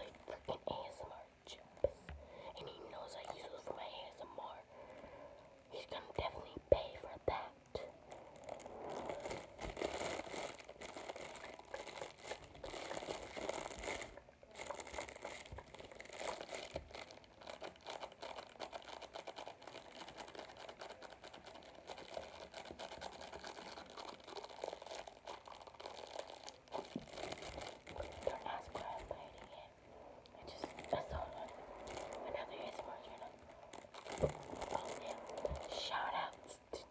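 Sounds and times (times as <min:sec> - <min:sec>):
crinkly wrapping crackling: 0:00.0 - 0:36.9.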